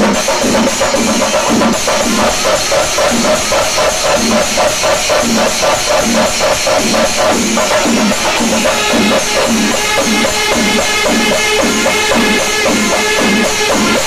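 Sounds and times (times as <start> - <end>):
cymbals clashing: 0.0 - 14.0
drums beaten with sticks: 0.0 - 14.0.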